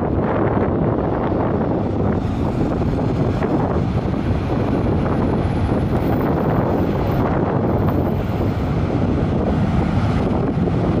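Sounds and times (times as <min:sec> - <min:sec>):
jet engines roaring: 0:00.0 - 0:11.0
wind buffeting microphone: 0:00.0 - 0:11.0.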